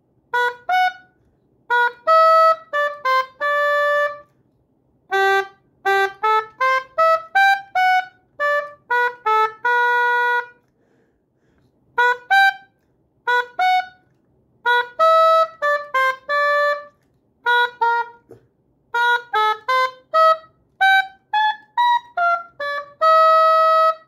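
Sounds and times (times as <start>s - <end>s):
oboe playing slow melody: 0.3s - 4.4s, 5.1s - 10.7s, 12.0s - 24.0s.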